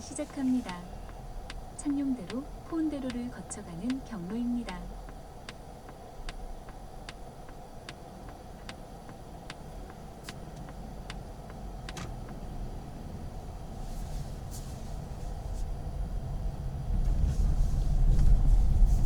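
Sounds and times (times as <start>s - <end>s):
turn signal ticking: 0.0s - 17.2s
low cabin rumble: 0.0s - 19.0s.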